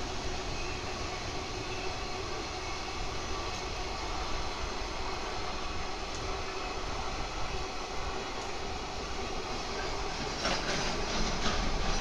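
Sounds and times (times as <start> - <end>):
steel wheels on rails: 0.0 - 12.0.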